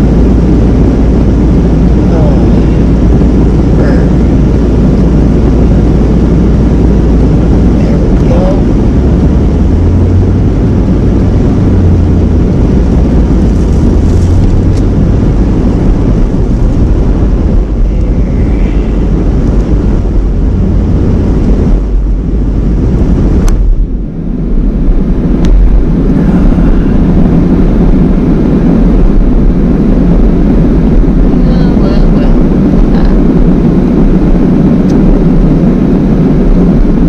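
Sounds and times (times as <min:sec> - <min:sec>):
van engine and tyre rumble: 0:00.0 - 0:37.0.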